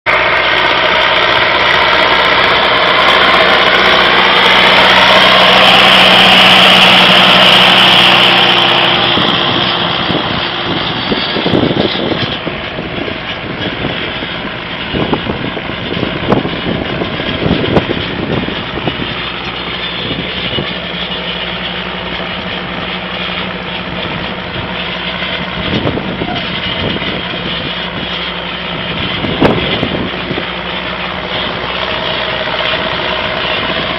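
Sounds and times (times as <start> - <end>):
tractor diesel engine under load: 0.0 - 33.9.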